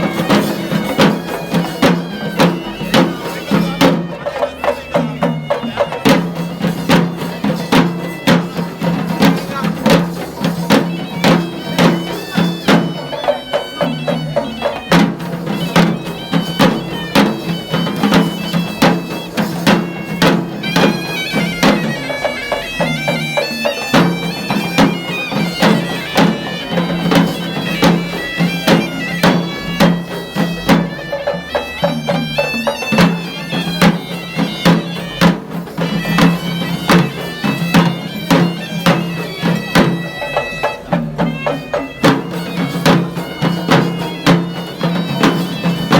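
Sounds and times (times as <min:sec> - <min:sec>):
nasal reed pipe melody: 0:00.0 - 0:45.9
rapid drum strokes: 0:00.0 - 0:45.9.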